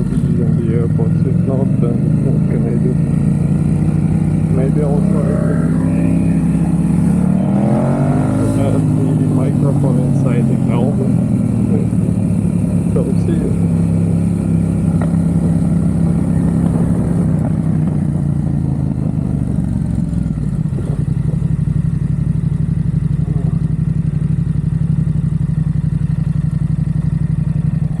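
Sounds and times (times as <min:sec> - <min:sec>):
motorcycle engine slowing: 0:00.0 - 0:28.0.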